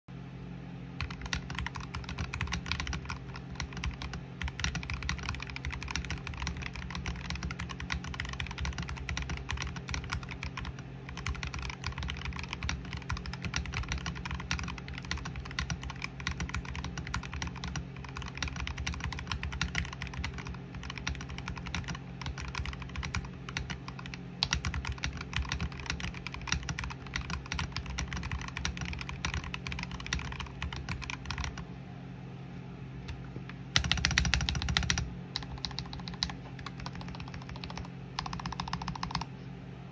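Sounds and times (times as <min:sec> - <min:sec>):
fast mechanical keyboard typing: 0:01.0 - 0:31.7, 0:33.1 - 0:39.3.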